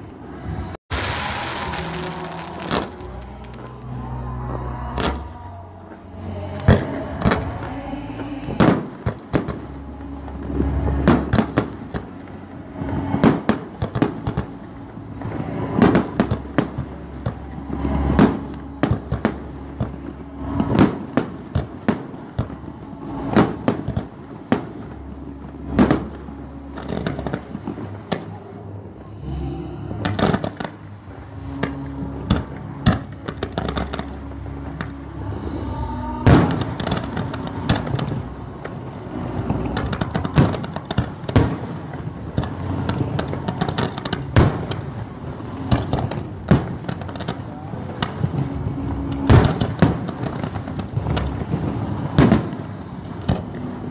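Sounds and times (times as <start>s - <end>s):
firework crackling: 0.0s - 53.9s.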